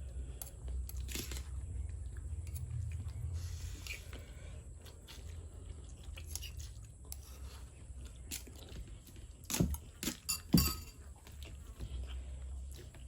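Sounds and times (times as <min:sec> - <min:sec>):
person chewing noodles: 0:00.0 - 0:10.3, 0:11.0 - 0:13.0.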